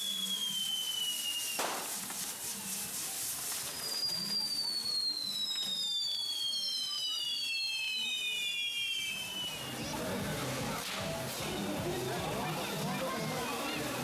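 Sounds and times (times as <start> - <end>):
firework whistles sliding down: 0.0 - 12.8
firework hissing burst: 0.0 - 14.0.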